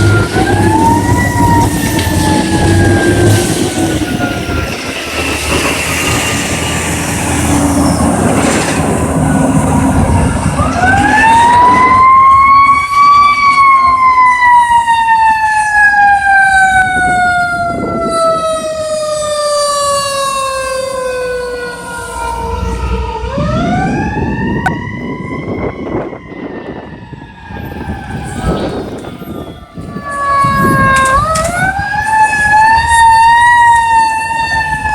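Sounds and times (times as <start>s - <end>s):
fire truck siren wailing: 0.0s - 34.9s.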